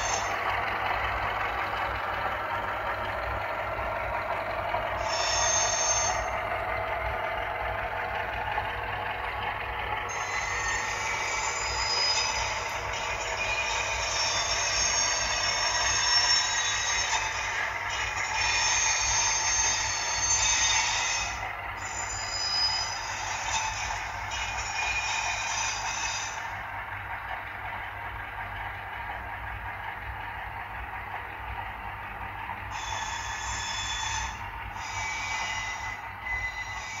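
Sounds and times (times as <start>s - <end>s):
high wheel squeal: 0.0s - 30.2s, 30.8s - 37.0s.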